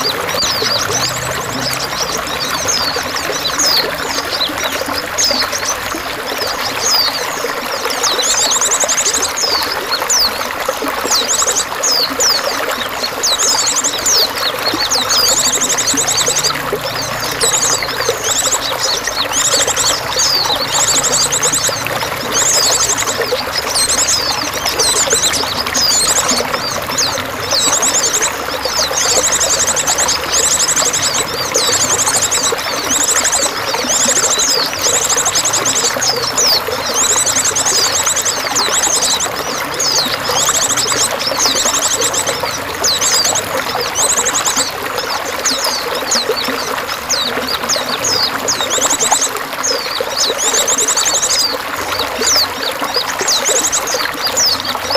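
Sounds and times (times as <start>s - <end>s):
songbirds chirping: 0.0s - 54.9s
trickling water: 0.0s - 54.9s.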